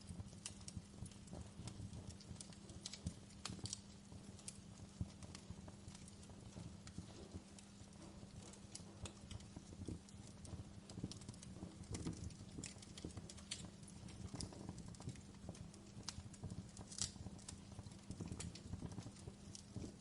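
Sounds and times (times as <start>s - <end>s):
campfire wood crackling and popping: 0.0s - 20.0s.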